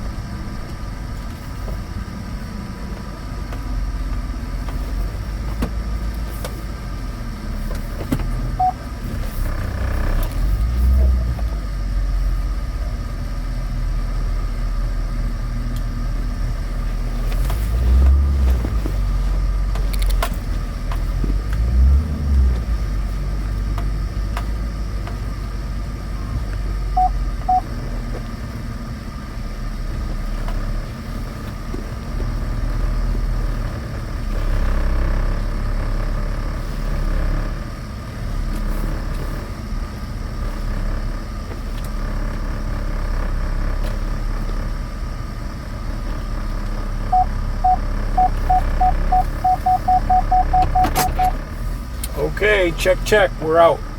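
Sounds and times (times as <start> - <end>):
car engine rumbling: 0.0 - 53.9.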